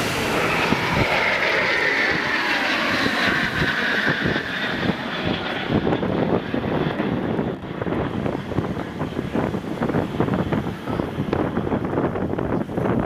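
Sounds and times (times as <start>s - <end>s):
jet aircraft passing overhead: 0.0s - 13.0s
wind buffeting microphone: 0.0s - 13.0s.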